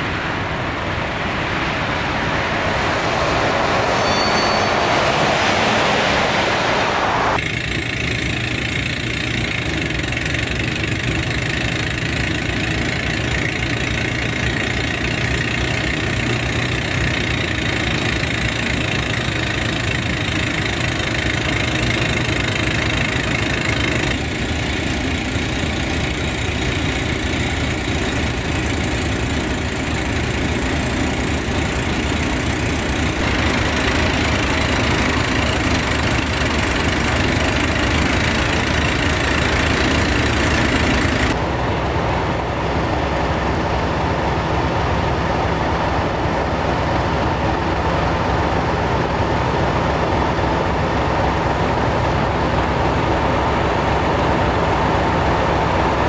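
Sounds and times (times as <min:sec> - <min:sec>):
diesel locomotive engine idling: 0:07.4 - 0:56.0.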